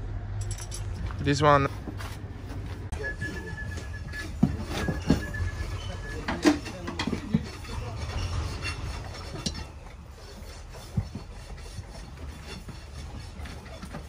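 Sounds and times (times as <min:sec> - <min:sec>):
tools scraping hoof: 0:00.5 - 0:14.0.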